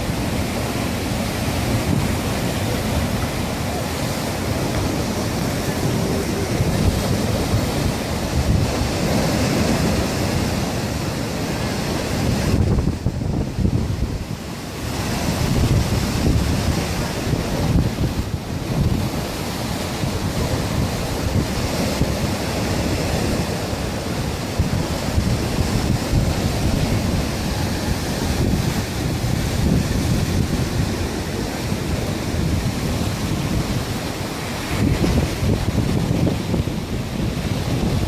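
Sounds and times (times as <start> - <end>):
sea surf rushing over rocks: 0.0 - 38.0
wind buffeting microphone: 0.0 - 38.0.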